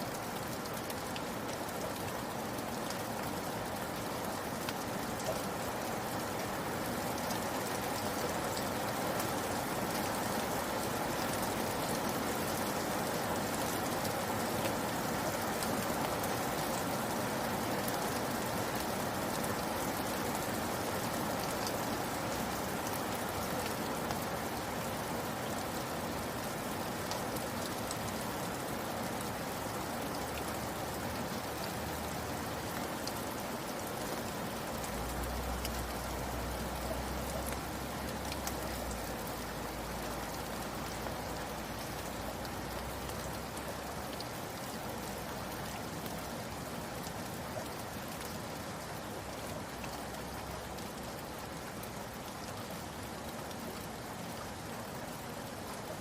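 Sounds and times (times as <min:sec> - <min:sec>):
raindrops ticking on surface: 0:00.0 - 0:56.0
steady rain hiss: 0:00.0 - 0:56.0.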